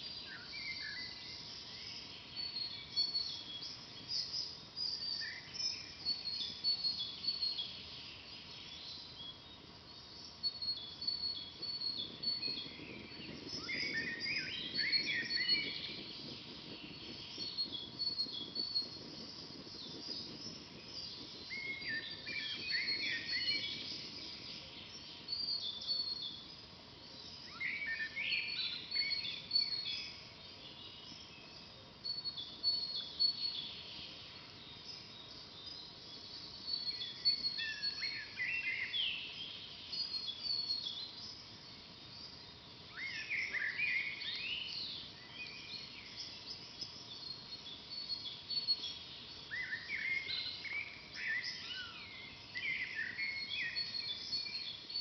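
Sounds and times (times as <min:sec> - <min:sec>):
bird warbling song: 0:00.1 - 0:55.0.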